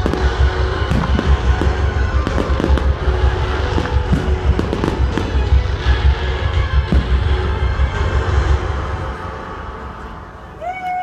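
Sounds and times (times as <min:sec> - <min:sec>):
firework crackling: 0:00.0 - 0:09.9.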